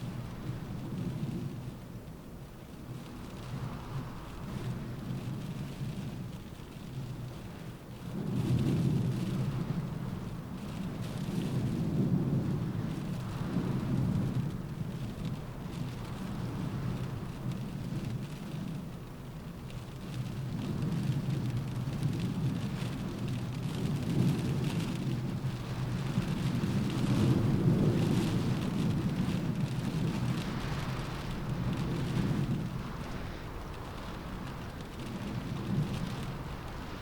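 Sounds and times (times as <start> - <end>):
rain on a car roof: 0.0 - 37.0.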